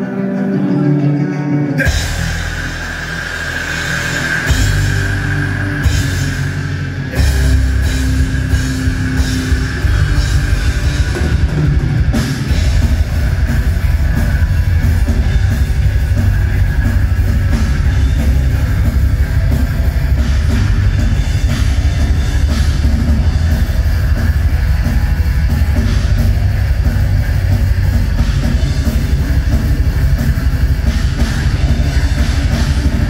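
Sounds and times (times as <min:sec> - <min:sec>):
black metal band playing: 0:00.0 - 0:33.0
distorted electric guitar: 0:00.0 - 0:33.0
dense drumming: 0:01.9 - 0:33.0.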